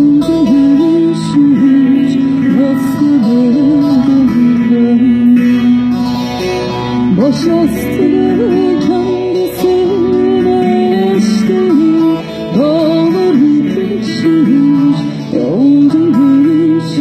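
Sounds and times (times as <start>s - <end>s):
folk music on plucked strings: 0.0s - 17.0s.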